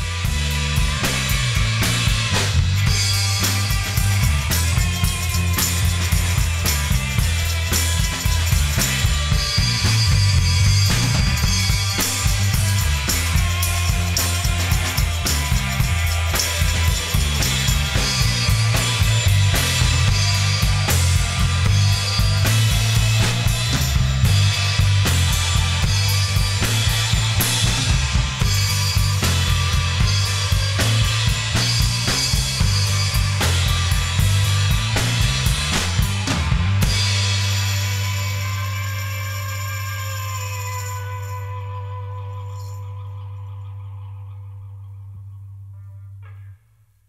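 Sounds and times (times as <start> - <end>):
drum kit beat: 0.0 - 41.3
tambourine: 0.0 - 43.2
electric guitars: 0.0 - 46.6
bass guitar: 0.0 - 47.0
keyboard: 0.0 - 47.0.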